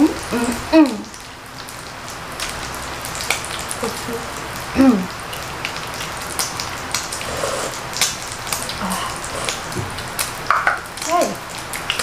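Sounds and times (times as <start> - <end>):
pork sizzling on grill: 0.0 - 12.0.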